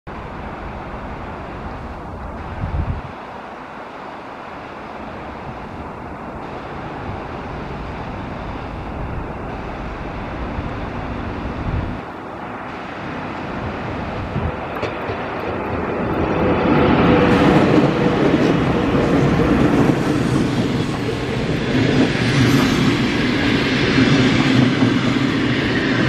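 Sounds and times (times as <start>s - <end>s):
wind buffeting microphone: 0.1s - 3.3s, 5.1s - 26.0s
electric train approaching: 0.1s - 26.0s.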